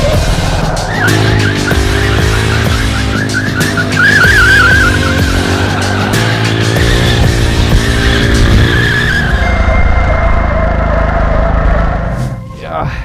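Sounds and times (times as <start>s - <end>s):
music: 0.0s - 10.1s, 11.7s - 13.0s
motorcycle engine running: 0.0s - 12.1s
motorcycle tyre squealing: 0.0s - 12.4s.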